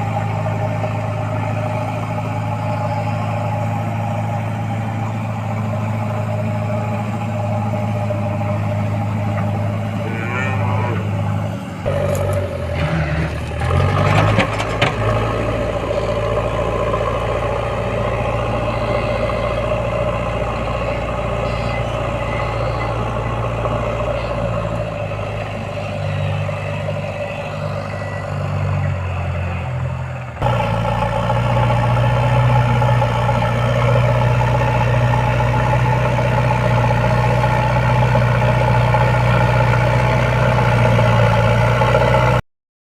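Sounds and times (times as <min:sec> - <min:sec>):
diesel engine running: 0:00.0 - 0:42.4.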